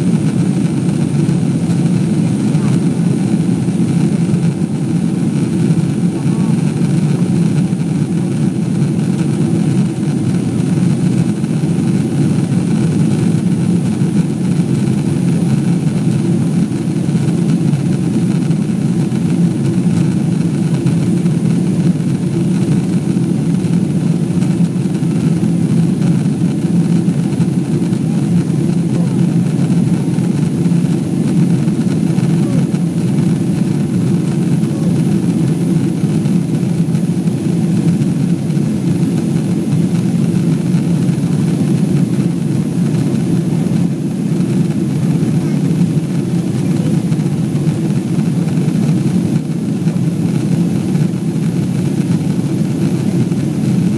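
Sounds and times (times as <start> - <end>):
airliner cabin roar: 0.0 - 53.9.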